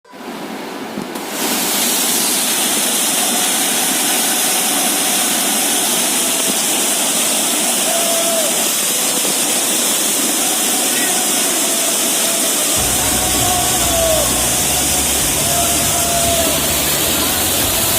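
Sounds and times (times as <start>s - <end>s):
waterfall roaring: 0.1s - 17.9s.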